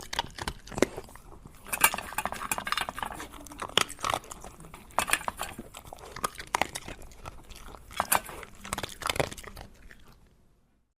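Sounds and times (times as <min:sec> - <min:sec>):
dog crunching dry kibble: 0:00.0 - 0:10.4.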